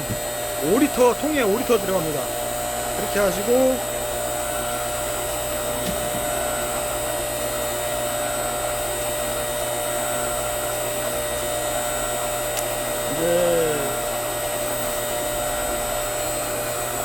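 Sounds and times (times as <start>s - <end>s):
log splitter motor whirring: 0.0s - 17.0s.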